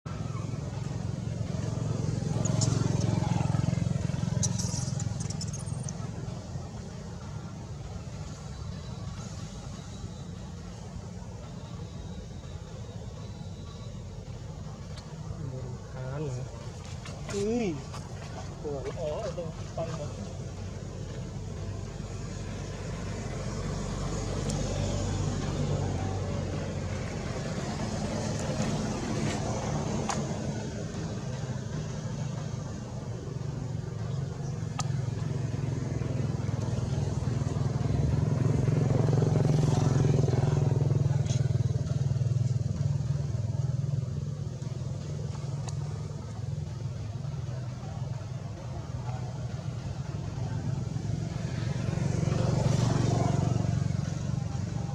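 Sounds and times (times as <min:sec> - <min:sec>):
vehicle engine humming: 0:00.0 - 0:54.9.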